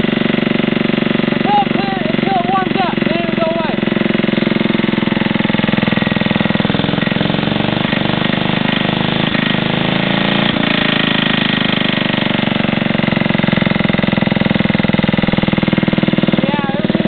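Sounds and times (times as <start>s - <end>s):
single-cylinder engine running: 0.0s - 17.0s.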